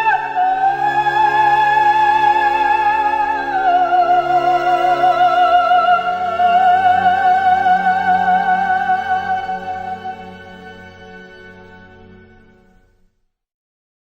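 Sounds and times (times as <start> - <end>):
sustained accompaniment: 0.0 - 13.0.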